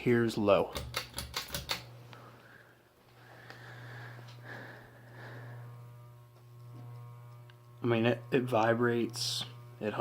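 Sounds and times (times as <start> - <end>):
ceiling fan motor hum: 0.0 - 10.0.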